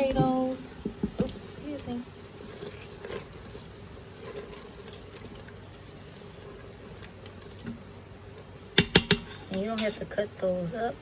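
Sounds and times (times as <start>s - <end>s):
sauce bubbling and sizzling: 0.0s - 11.0s.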